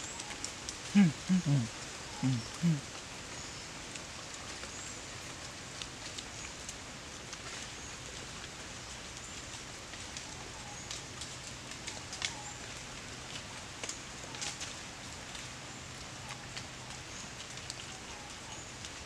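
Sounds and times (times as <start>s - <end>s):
faint ticks and crackles: 0.0s - 19.0s
steady outdoor hiss: 0.0s - 19.0s.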